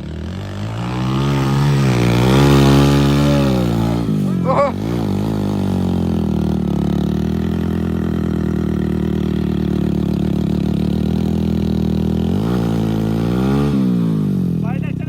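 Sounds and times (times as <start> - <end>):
heavy diesel engine labouring: 0.0 - 13.6.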